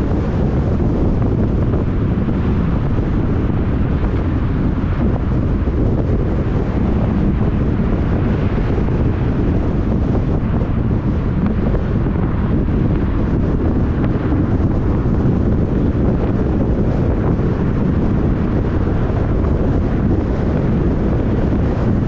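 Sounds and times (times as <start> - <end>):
car driving rumble: 0.0 - 22.0
wind buffeting microphone: 0.0 - 22.0.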